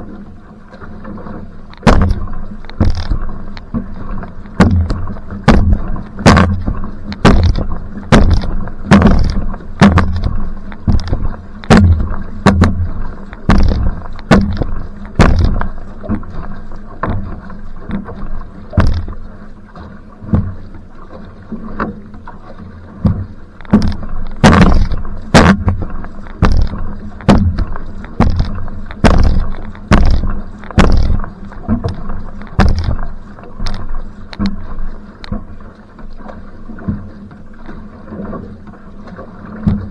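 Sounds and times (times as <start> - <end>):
paddle splashes: 0.0 - 39.9
water rumbling along hull: 0.0 - 39.9.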